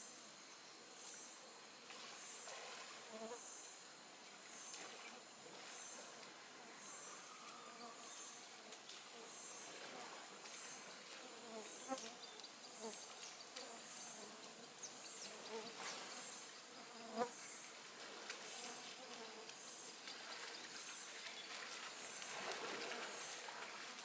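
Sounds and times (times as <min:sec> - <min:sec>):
flying insects buzzing: 0:00.0 - 0:24.0
forest insect chorus: 0:00.0 - 0:24.0.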